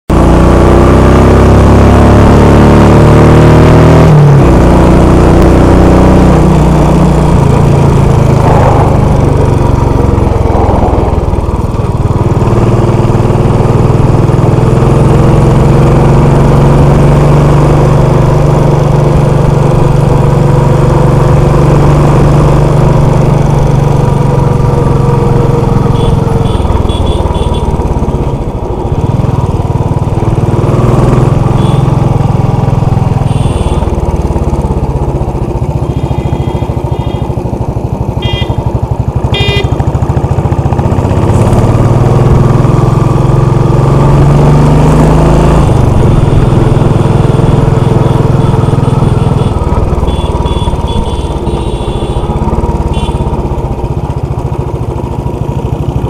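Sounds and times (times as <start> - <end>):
motorcycle engine running: 0.1 - 56.0.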